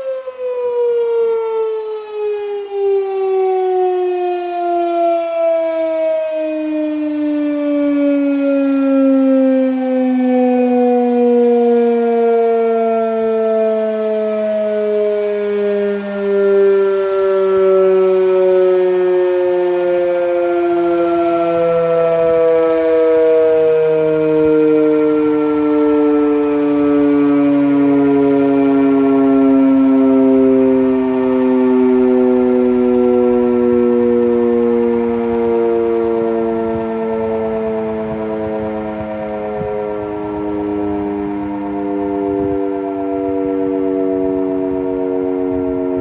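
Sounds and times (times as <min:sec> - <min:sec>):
fire siren winding down: 0:00.0 - 0:46.0.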